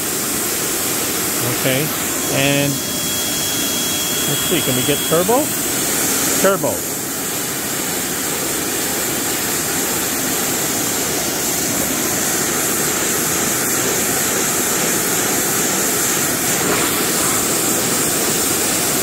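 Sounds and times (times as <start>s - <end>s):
pressure washer spraying concrete: 0.0s - 19.0s.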